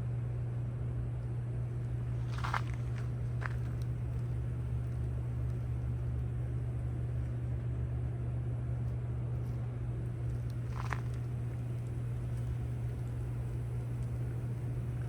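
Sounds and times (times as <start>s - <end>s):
vehicle engine drone: 0.8s - 15.0s.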